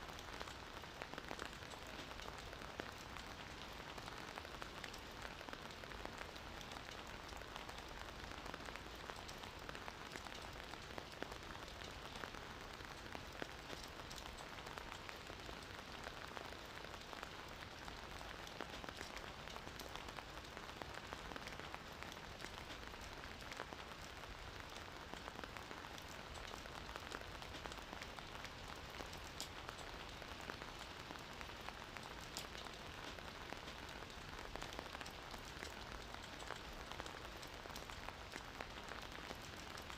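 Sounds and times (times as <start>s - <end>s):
gentle rain falling: 0.0s - 39.9s
raindrop ticks: 0.1s - 39.9s.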